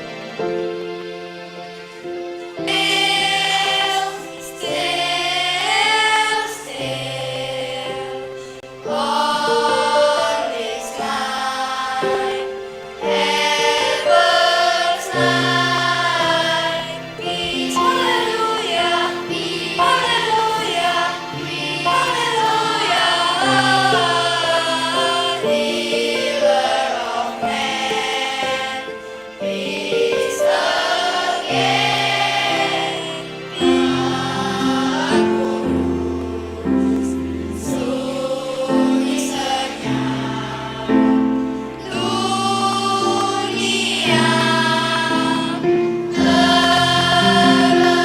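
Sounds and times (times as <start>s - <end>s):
children's choir singing: 0.0s - 48.0s
low sustained accompaniment notes: 0.0s - 48.0s.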